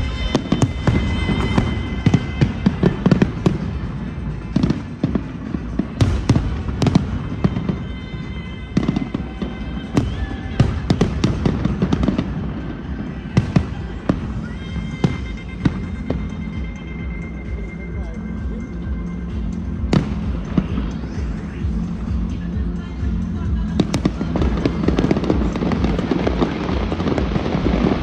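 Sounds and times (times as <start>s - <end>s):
fireworks exploding: 0.0s - 28.0s
music playing: 0.0s - 28.0s.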